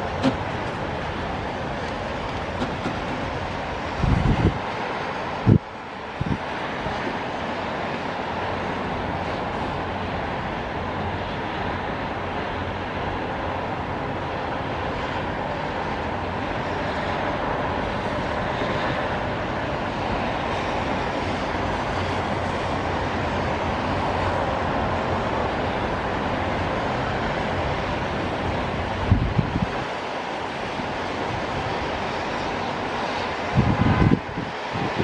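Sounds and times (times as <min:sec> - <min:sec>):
car engines: 0:00.0 - 0:35.0
car tyres on wet road: 0:00.0 - 0:35.0.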